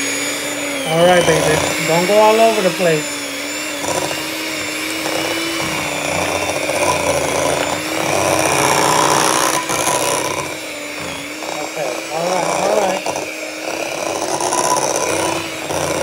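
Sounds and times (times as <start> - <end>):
electric hand mixer whisking: 0.0 - 16.0.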